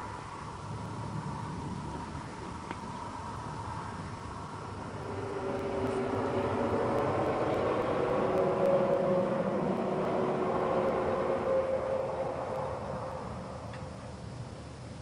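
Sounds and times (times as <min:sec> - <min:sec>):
engine-like drone: 0:00.0 - 0:15.0.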